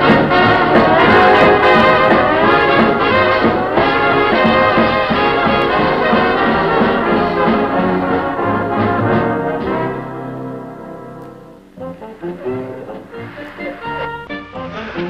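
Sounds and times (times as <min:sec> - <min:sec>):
orchestral cartoon music with brass: 0:00.0 - 0:15.0.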